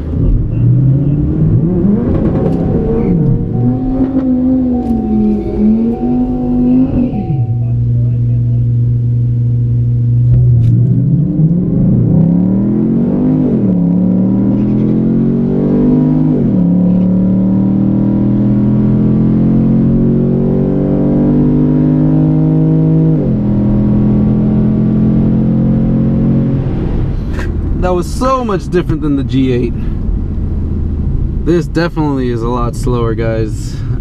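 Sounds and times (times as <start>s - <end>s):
car engine at full throttle: 0.0s - 34.0s.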